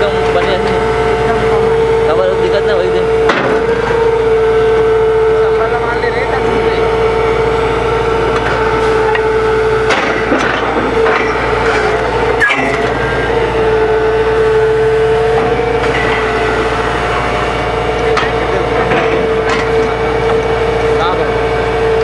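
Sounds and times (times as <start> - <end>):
drilling rig high whine: 0.0 - 22.0
engine drone: 0.0 - 22.0.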